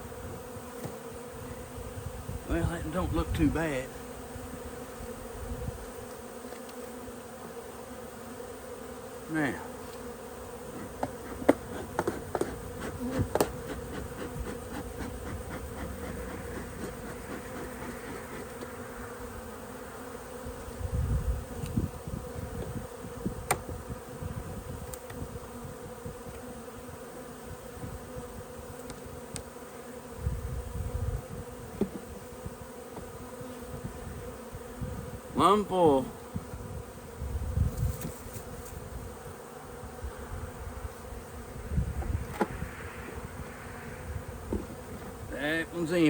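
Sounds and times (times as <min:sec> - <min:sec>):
honey bees buzzing: 0:00.0 - 0:46.0.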